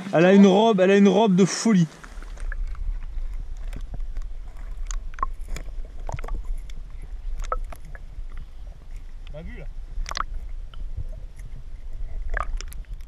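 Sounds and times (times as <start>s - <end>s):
muffled underwater river rumble: 1.9s - 13.0s.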